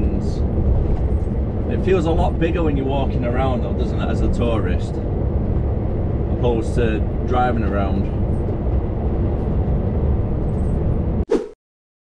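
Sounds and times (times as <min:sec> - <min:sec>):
truck engine rumble: 0:00.0 - 0:11.2.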